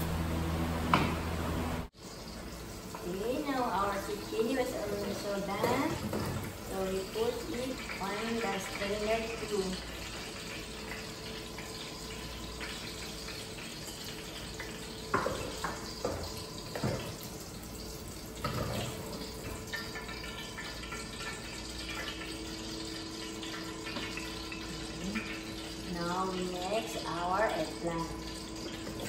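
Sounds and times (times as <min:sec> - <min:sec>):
oil sizzling: 0:00.0 - 0:29.0.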